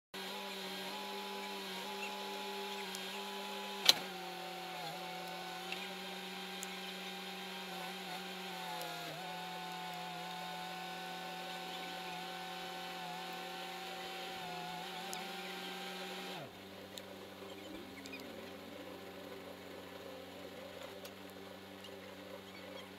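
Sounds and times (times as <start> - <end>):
engine running at high speed: 0.2 - 22.9.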